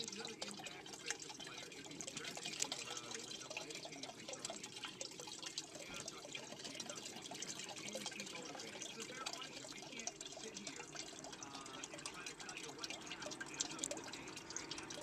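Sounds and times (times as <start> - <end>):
water splashing and dripping in bucket: 0.0 - 15.0.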